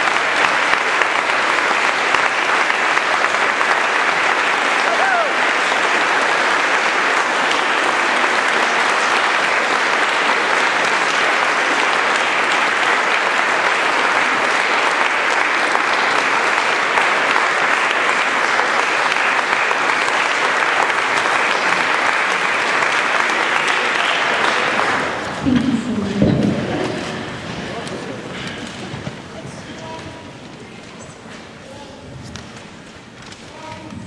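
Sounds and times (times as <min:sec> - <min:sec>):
audience applauding: 0:00.0 - 0:31.4.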